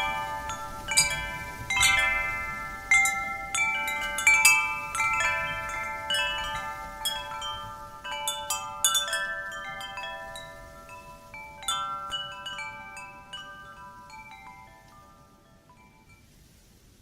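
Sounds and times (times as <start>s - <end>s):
wind chimes ringing: 0.0s - 16.4s.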